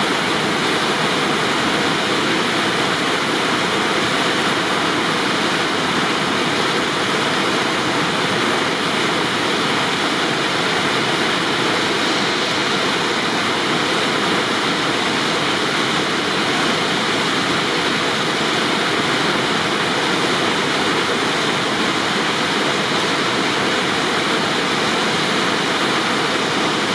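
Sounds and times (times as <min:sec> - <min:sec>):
whitewater rushing over boulders: 0:00.0 - 0:26.9.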